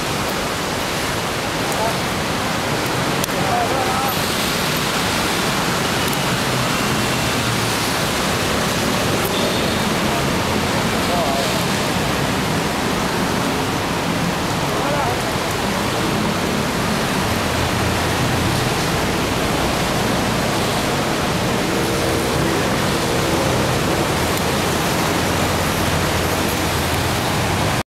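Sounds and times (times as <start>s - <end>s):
loud rushing noise: 2.3s - 27.8s.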